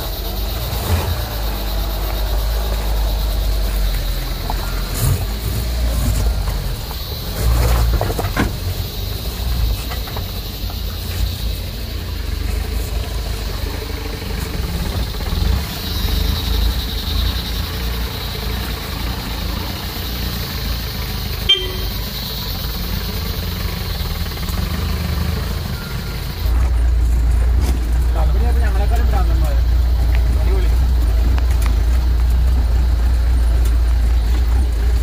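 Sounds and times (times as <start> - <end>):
off-road vehicle engine and road rumble: 0.0 - 35.0.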